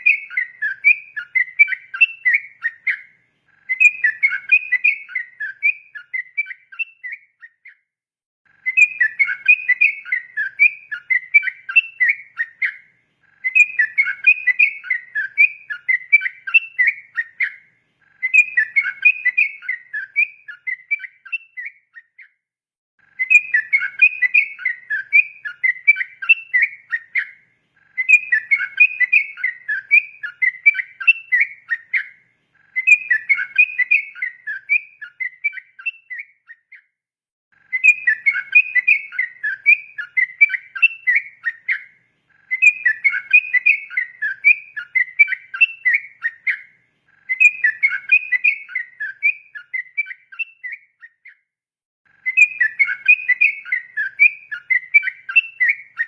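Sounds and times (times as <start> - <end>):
bird singing chattering phrases: 0.0 - 7.8, 8.5 - 22.4, 23.0 - 36.9, 37.5 - 51.5, 52.1 - 56.0.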